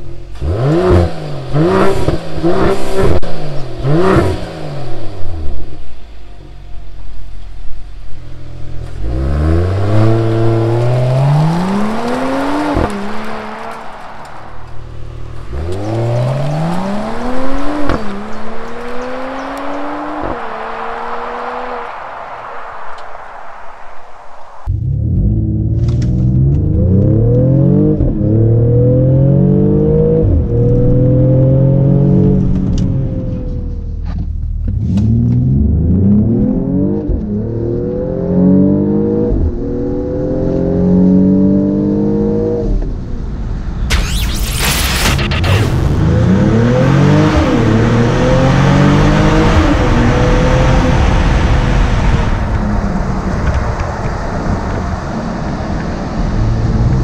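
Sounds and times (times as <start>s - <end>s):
car engine accelerating hard: 0.0s - 5.9s, 8.2s - 57.0s.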